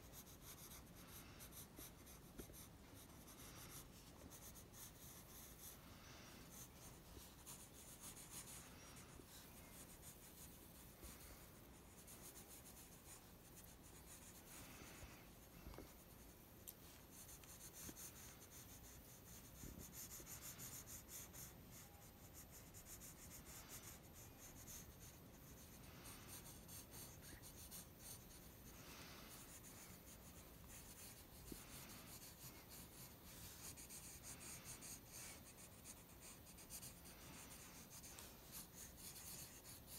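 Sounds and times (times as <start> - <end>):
pencil scribbling on paper: 0.0 - 39.9.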